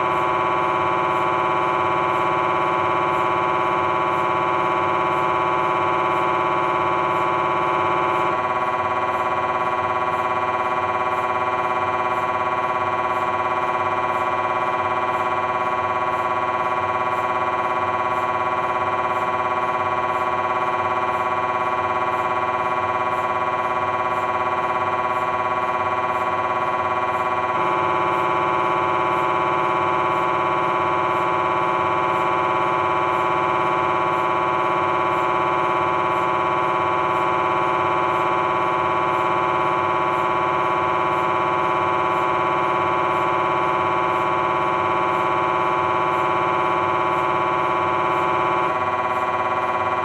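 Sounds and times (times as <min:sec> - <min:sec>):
mri scanner buzzing: 0:00.0 - 0:50.0.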